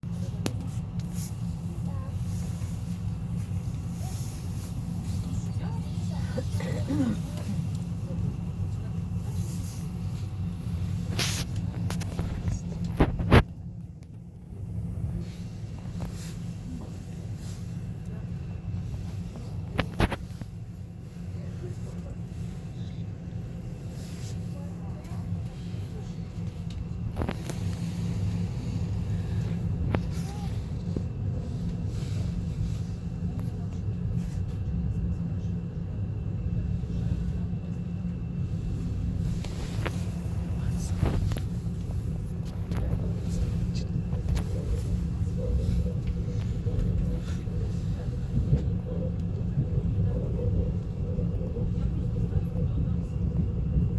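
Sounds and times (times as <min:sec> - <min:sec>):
electric train rumbling: 0:00.0 - 0:53.9.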